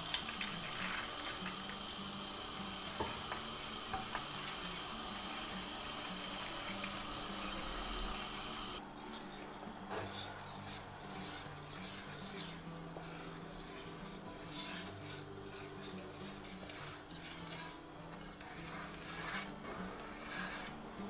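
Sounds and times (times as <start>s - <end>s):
whisk scraping metal pot: 0.0s - 20.8s.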